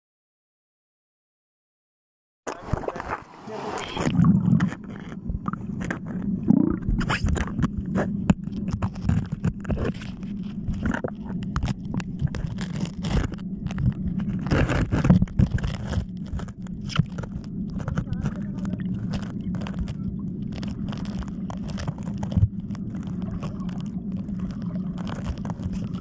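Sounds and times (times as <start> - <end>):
low underwater hum: 2.6 - 26.0
underwater clicks: 4.0 - 26.0.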